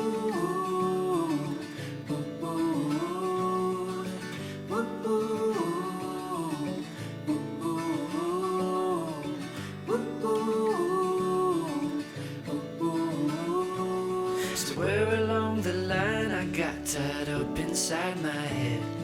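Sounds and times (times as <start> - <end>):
person singing: 0.0 - 19.0
strummed acoustic guitar: 0.0 - 19.0.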